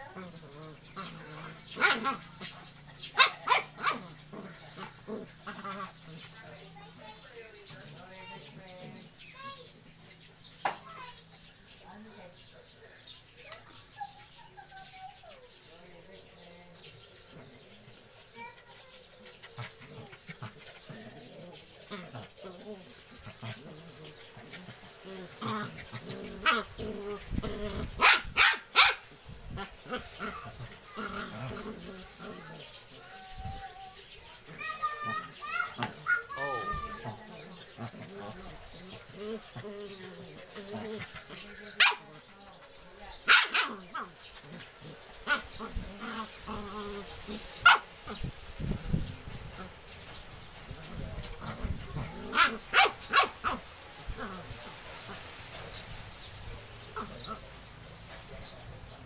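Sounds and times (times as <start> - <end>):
dogs growling playfully: 0.0 - 59.0.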